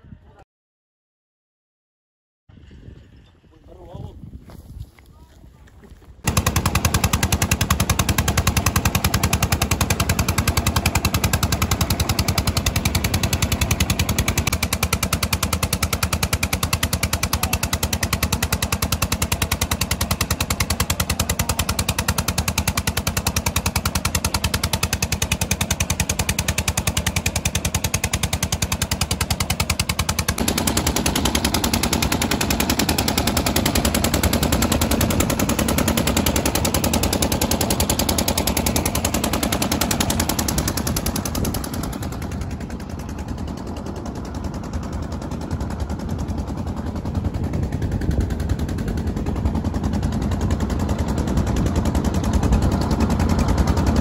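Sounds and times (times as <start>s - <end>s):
diesel engine chugging: 6.2s - 54.0s.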